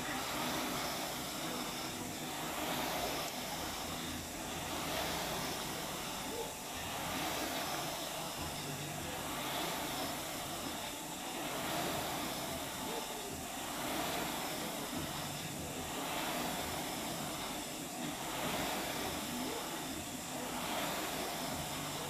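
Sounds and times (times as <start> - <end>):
rowing machine fan whooshing: 0.0 - 22.0.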